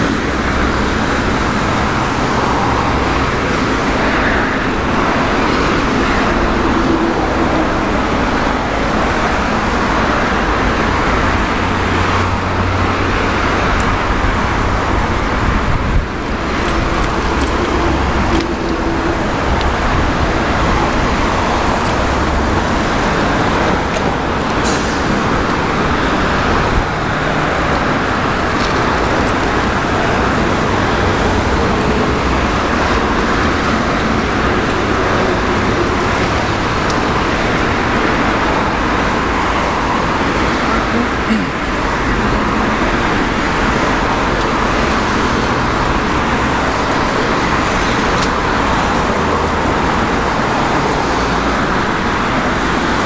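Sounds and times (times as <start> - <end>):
road traffic rushing past: 0.0 - 53.0.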